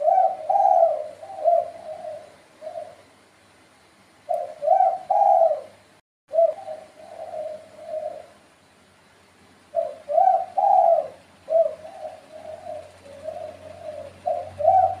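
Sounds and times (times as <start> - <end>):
dove cooing: 0.0 - 3.1, 4.3 - 8.5, 9.7 - 15.0.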